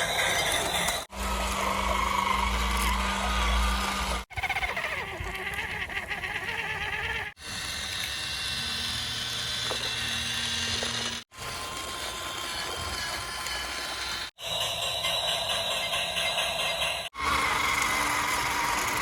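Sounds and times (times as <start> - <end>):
small electric motors whirring: 0.0 - 19.0.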